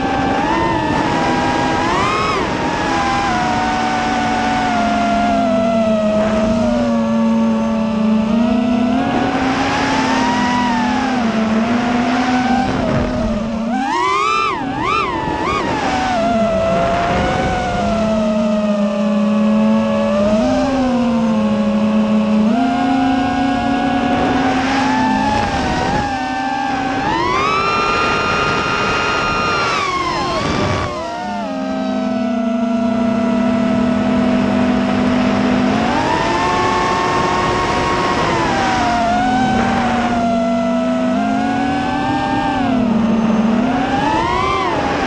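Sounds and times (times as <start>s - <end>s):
drone motors whining: 0.0s - 45.0s.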